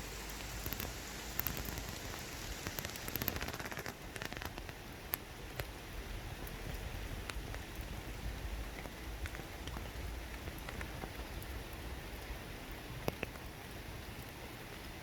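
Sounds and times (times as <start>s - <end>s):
rain pattering on water and leaves: 0.0s - 15.0s
water drips ticking: 0.0s - 15.0s.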